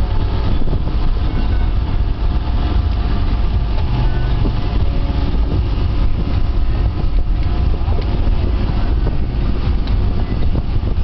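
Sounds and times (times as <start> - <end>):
motorboat engine running: 0.0 - 11.0
wind noise on microphone: 0.0 - 11.0.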